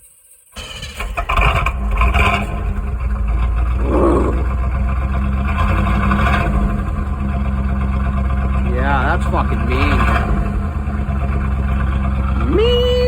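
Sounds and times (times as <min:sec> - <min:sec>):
car engine starting and idling: 0:00.5 - 0:13.0.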